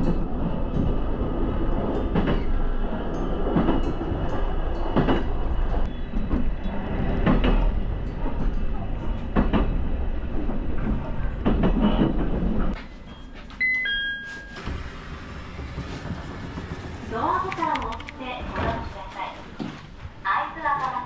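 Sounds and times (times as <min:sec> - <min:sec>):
train running rumble: 0:00.0 - 0:12.8, 0:14.8 - 0:21.0.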